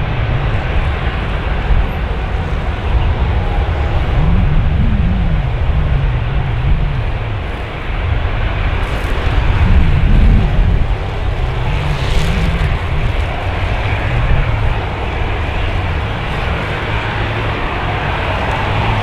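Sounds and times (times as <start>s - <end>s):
jet engines passing close: 0.0s - 19.0s.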